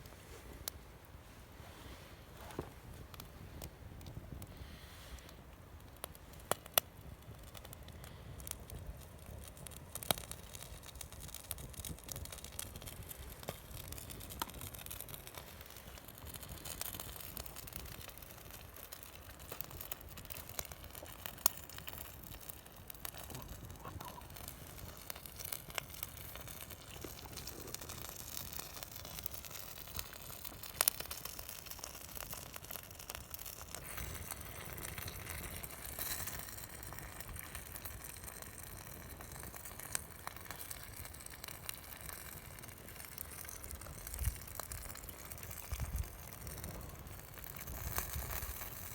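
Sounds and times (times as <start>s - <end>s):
wood fire crackling and popping: 2.2s - 48.9s.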